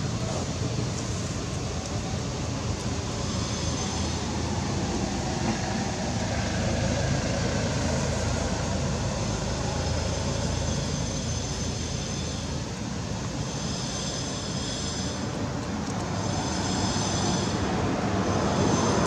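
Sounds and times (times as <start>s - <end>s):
low rumbling background noise: 0.0s - 19.0s.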